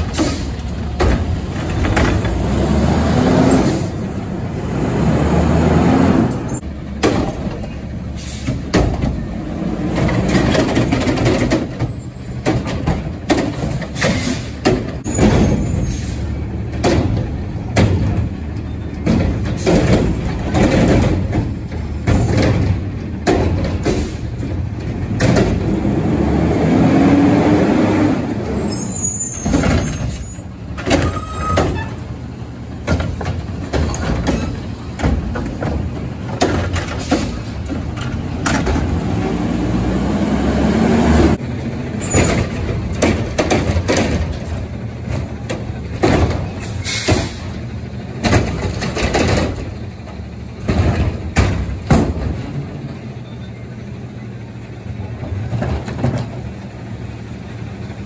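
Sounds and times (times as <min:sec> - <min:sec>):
carts clanking and knocking: 0:00.0 - 0:40.1, 0:41.2 - 0:58.0
truck engine rumble: 0:00.0 - 0:58.0.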